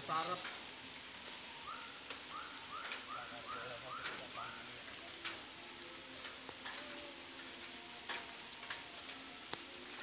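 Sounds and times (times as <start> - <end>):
low hiss: 0.0 - 10.0.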